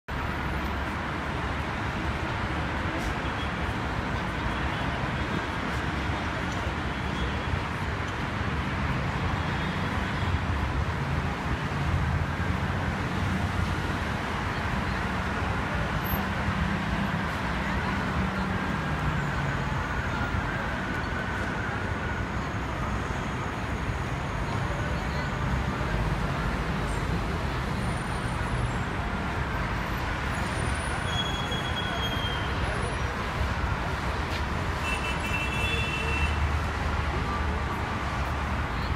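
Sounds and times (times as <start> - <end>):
low rumble of traffic: 0.1 - 38.9.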